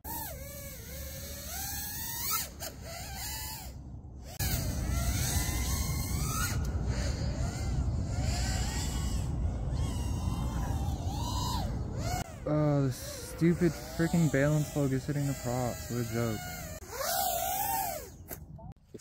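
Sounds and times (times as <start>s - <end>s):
drone motors whining: 0.1s - 19.0s.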